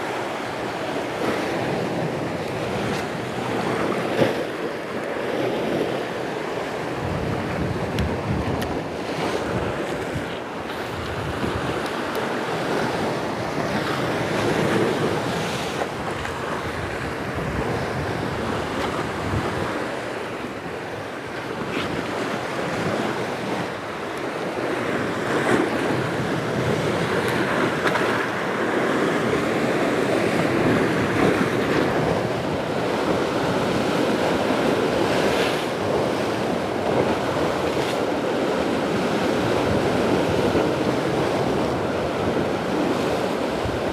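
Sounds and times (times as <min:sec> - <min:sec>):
waves breaking on rocks: 0:00.0 - 0:43.9
wind gusting on microphone: 0:00.0 - 0:43.9.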